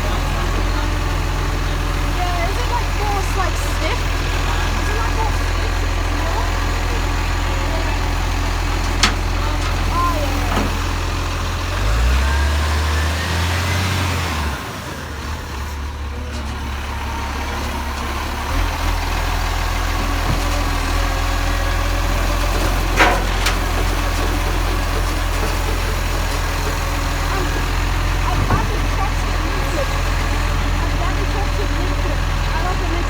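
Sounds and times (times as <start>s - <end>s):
garbage truck diesel engine running: 0.0s - 33.0s.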